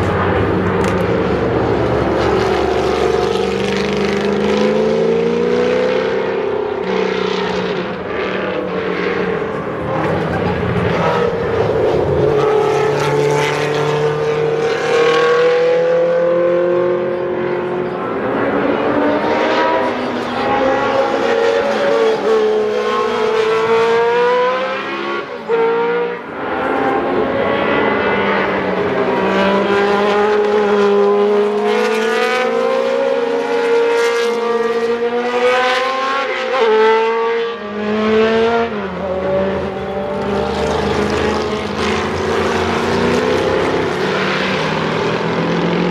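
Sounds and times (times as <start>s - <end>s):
racing car engines: 0.0s - 45.9s.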